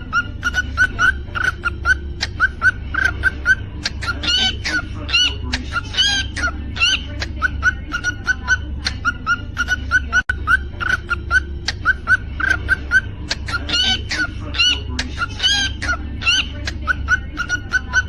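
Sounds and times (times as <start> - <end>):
cockatiel chirping: 0.0 - 18.0.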